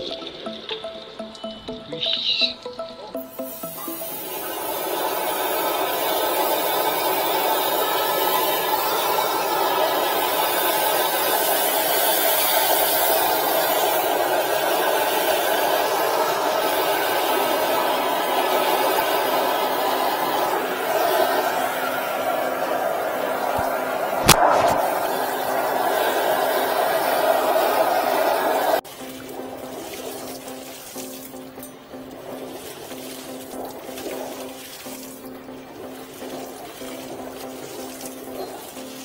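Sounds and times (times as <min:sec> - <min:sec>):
sewer jetter rushing noise: 0:03.4 - 0:39.0.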